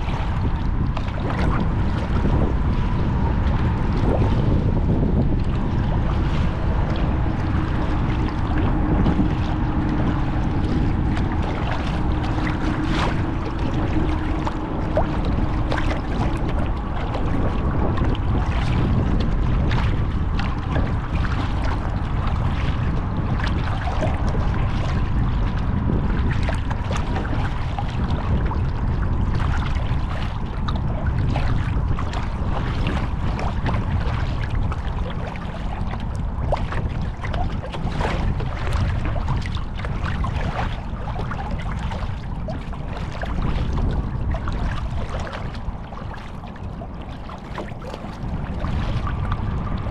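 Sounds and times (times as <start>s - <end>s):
paddle strokes splashing: 0.0s - 49.9s
water slapping a hull: 0.0s - 49.9s
wind buffeting microphone: 0.0s - 49.9s.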